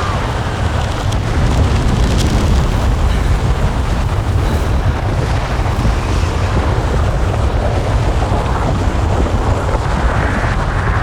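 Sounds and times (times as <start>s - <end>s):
low rumbling roar: 0.0s - 11.0s.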